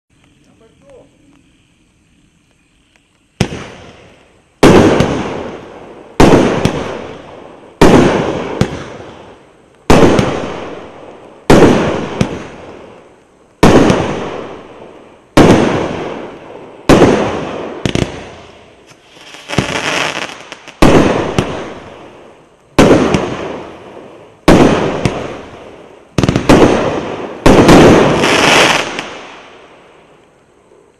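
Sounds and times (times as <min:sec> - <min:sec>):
fireworks shot bursts: 0:03.2 - 0:30.3.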